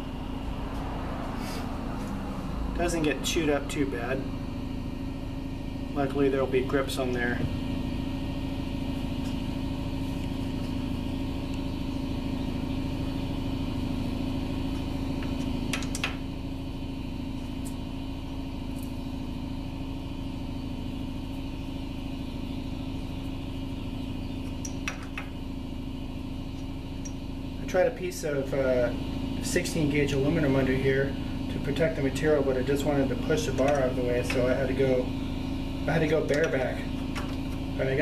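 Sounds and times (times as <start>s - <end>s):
shop machinery hum: 0.0s - 38.0s.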